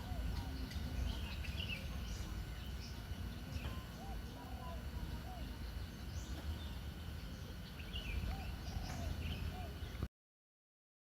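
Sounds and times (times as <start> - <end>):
birds chirping and whistling: 0.0 - 10.1.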